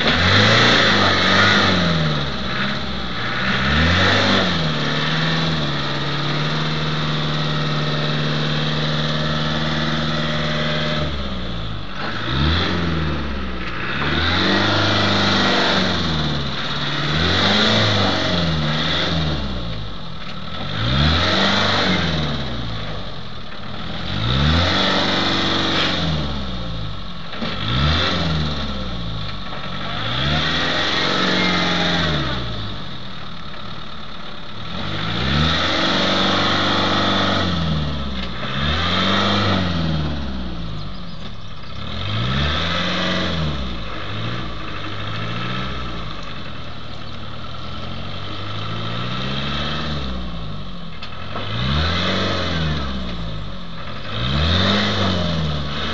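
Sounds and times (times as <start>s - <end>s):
engine revving: 0.0s - 55.9s.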